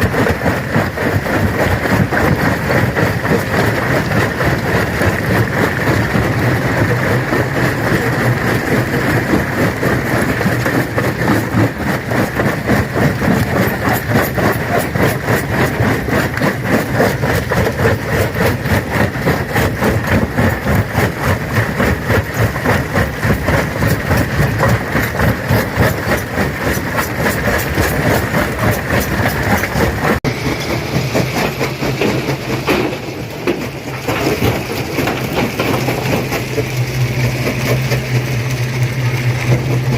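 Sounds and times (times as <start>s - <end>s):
stone crusher drone: 0.0s - 39.9s.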